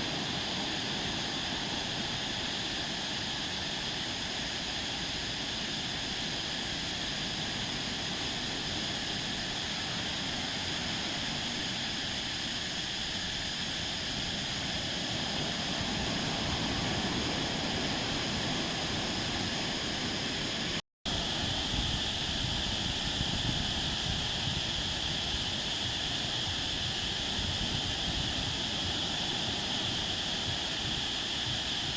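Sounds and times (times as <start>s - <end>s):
surf waves on sandy beach: 0.0s - 31.9s.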